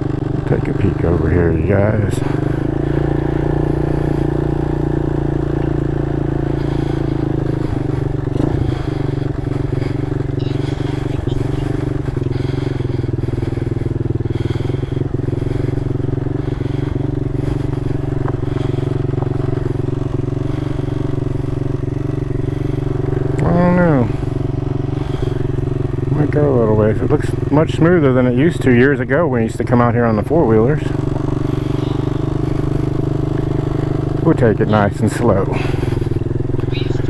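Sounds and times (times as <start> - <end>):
small motorcycle engine running: 0.0 - 37.0.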